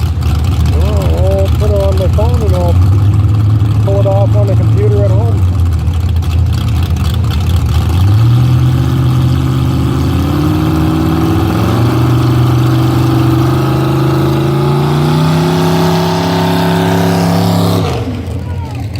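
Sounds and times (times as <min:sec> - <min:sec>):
truck engine revving under load: 0:00.0 - 0:18.9.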